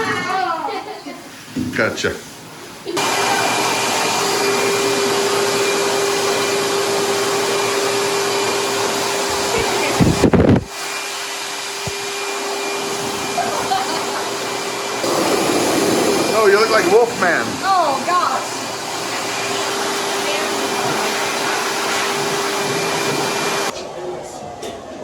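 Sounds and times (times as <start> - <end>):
blow dryer running: 2.9 - 23.8.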